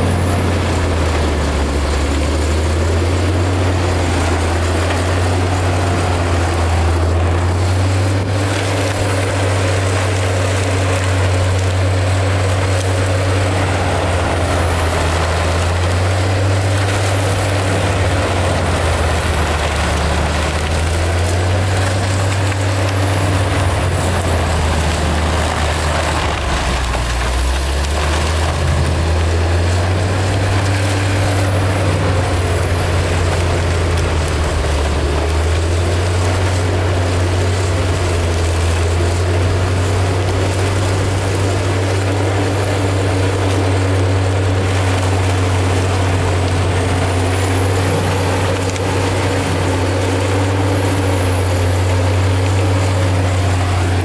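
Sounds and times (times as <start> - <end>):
deep engine drone: 0.0 - 54.0
mulching head grinding wood: 0.0 - 54.0.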